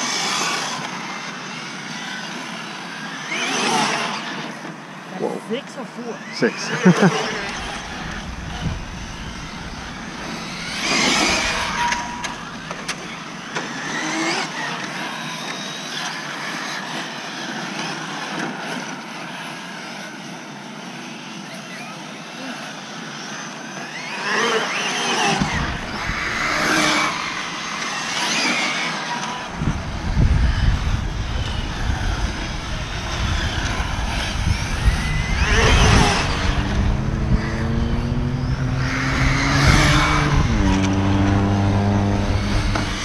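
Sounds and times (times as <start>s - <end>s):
electric model cars whining: 0.0s - 43.0s.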